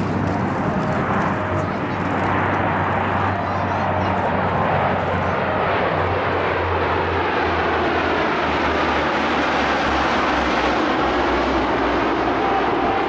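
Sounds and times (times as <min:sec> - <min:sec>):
low propeller hum: 0:00.0 - 0:13.0
turboprop aircraft drone: 0:00.0 - 0:13.0.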